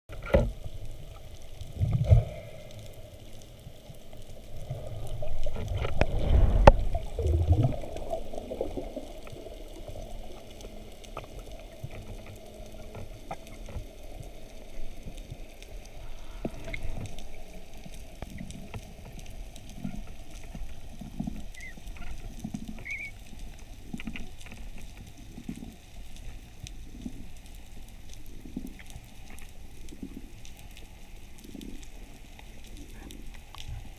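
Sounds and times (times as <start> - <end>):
underwater water movement: 0.1 - 33.9.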